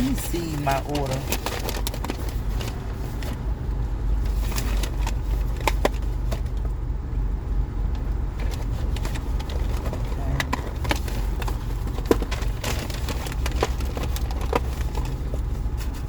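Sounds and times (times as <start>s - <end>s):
paper bag rustling: 0.0s - 6.6s, 8.4s - 16.0s
car engine rumbling: 0.0s - 16.0s.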